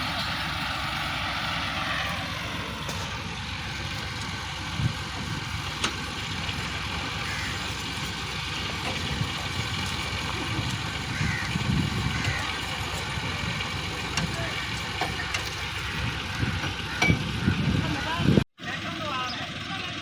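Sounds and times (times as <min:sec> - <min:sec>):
diesel tractor engines: 0:00.0 - 0:20.0.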